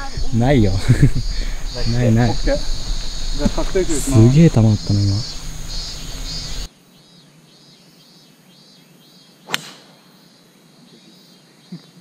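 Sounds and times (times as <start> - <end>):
insects chirring: 0.0 - 11.9.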